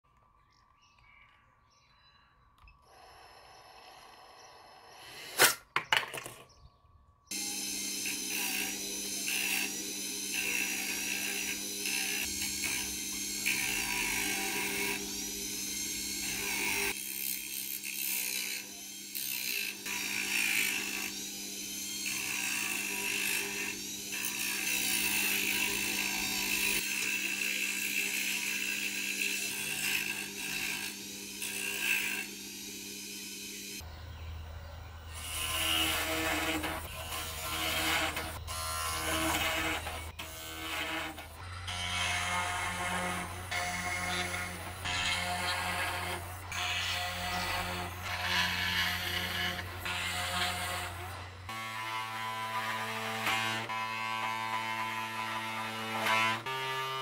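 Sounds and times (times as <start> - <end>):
rotary tool grinding: 7.3 - 33.9, 35.1 - 57.0.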